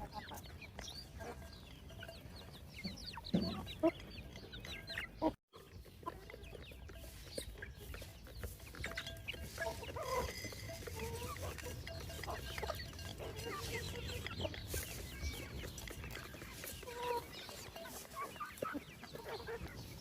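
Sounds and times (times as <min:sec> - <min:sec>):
chicks peeping: 0:00.0 - 0:20.0
hens clucking: 0:00.0 - 0:20.0.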